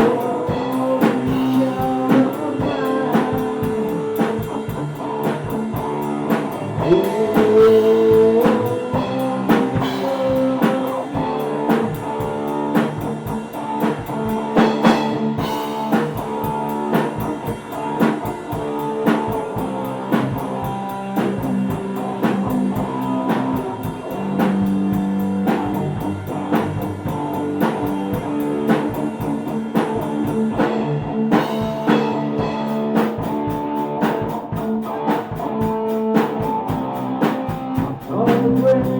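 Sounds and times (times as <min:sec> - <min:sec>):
drum kit steady beat: 0:00.0 - 0:38.9
electric guitar: 0:00.0 - 0:38.9.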